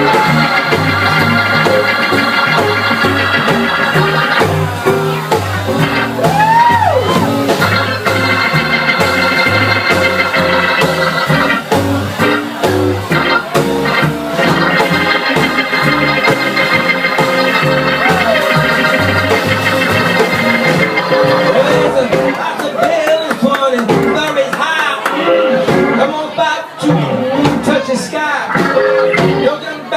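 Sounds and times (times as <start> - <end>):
band playing instrumental: 0.0 - 29.9.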